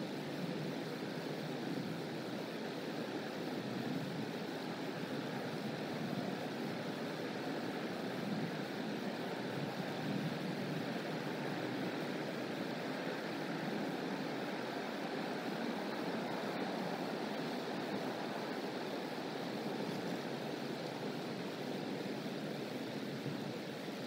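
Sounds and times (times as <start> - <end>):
low rushing outdoor background noise: 0.0 - 24.0.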